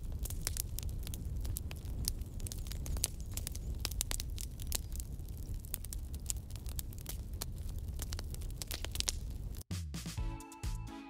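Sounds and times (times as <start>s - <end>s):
irregular crackling and popping: 0.0s - 10.0s.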